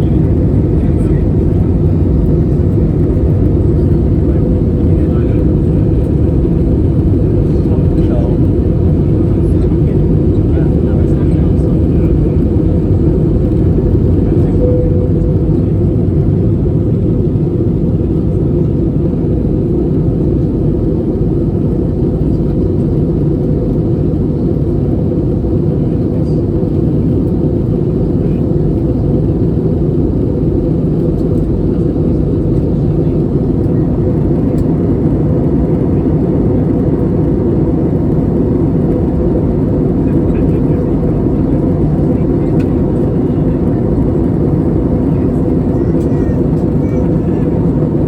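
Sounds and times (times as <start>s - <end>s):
jet engine rumble in cabin: 0.0s - 48.0s.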